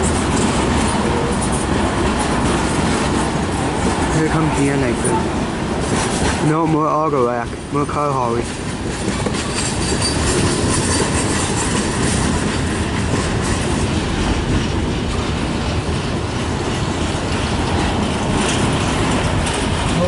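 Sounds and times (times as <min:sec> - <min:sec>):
clickety-clack over rail joints: 0:00.0 - 0:20.0
train wheels rumbling on rails: 0:00.0 - 0:20.0.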